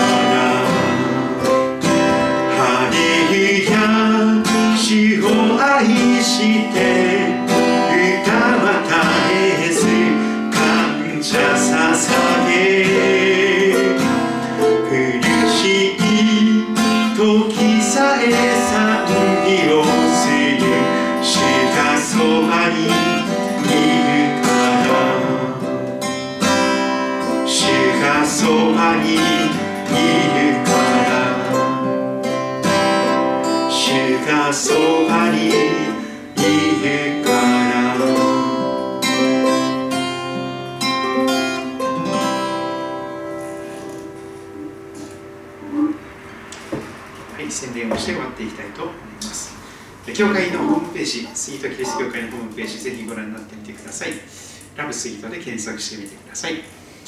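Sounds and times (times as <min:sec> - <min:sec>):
acoustic guitar strumming: 0:00.0 - 0:52.9.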